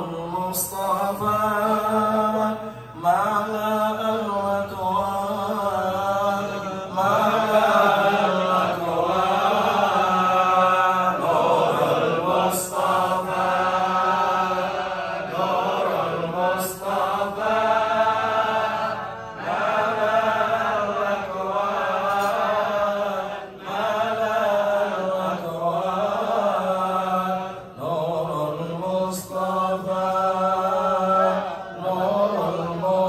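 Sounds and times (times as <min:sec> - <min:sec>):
man chanting unaccompanied: 0:00.0 - 0:18.9, 0:19.6 - 0:33.0.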